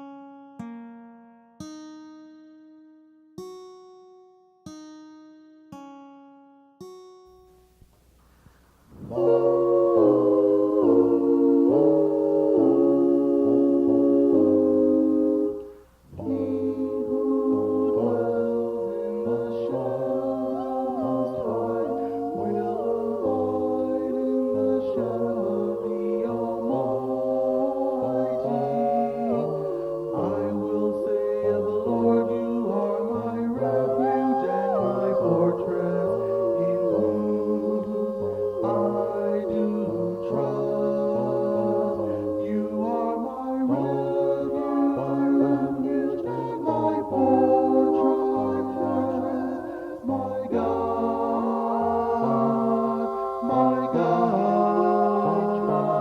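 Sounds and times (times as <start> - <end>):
slow choir-like vocal chords: 8.3 - 56.0.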